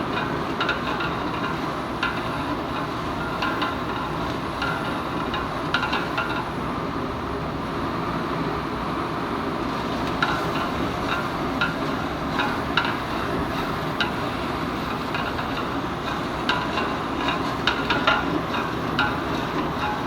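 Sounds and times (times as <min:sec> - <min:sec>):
metal utensil clanking on pot: 0:00.1 - 0:06.5, 0:10.2 - 0:20.0.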